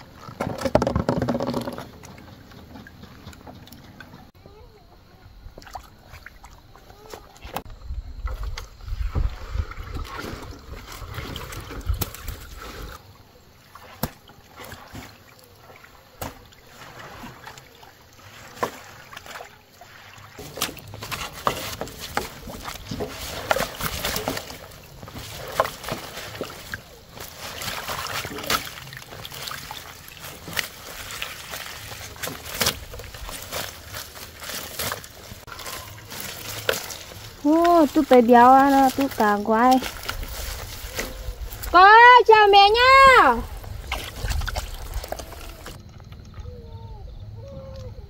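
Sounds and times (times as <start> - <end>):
water splashing and sloshing: 0.0 - 48.0.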